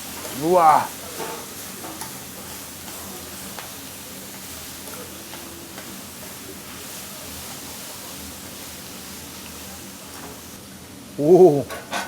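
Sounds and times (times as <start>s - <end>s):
meat sizzling on a griddle: 0.0s - 12.0s.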